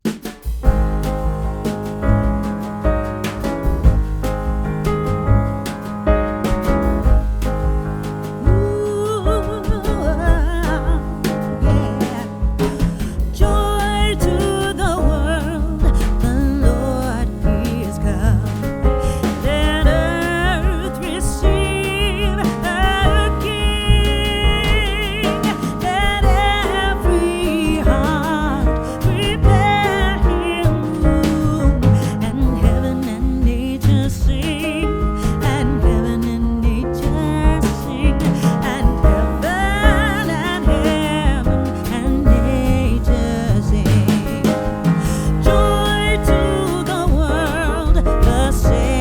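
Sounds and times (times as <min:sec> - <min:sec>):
song with vocals and heavy bass: 0:08.4 - 0:49.0.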